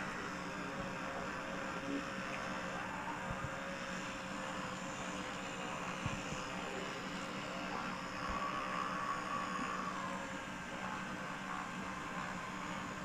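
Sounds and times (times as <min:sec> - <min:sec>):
machine hum with whine: 0:00.0 - 0:13.0.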